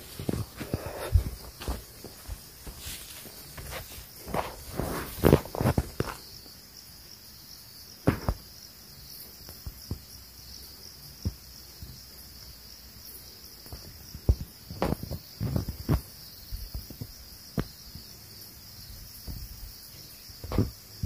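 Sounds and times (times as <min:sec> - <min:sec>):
insects chorus: 0:00.0 - 0:21.0.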